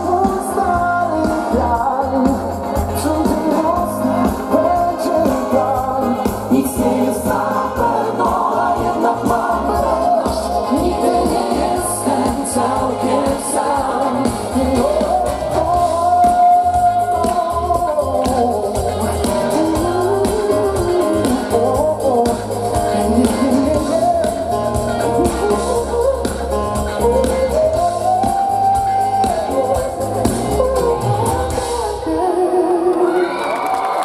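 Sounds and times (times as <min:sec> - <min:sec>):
live pop song through a pa: 0:00.0 - 0:34.0.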